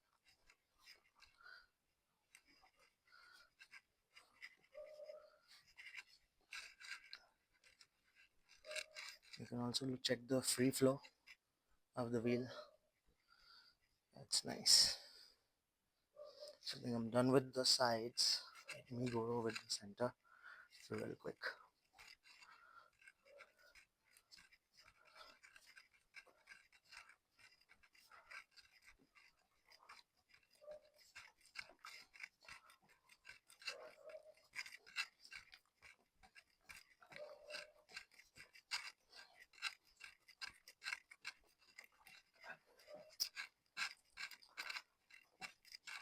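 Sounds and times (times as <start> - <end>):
brush scrubbing a drive chain: 0.0 - 11.4, 12.0 - 12.8, 13.8 - 15.2, 16.5 - 46.0.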